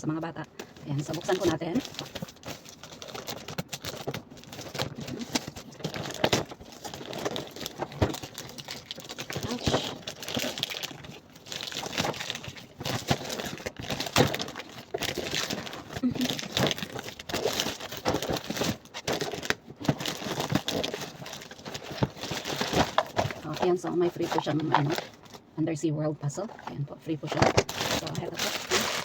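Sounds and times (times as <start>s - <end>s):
cardboard packaging rustling: 0.2s - 25.5s, 26.4s - 29.0s.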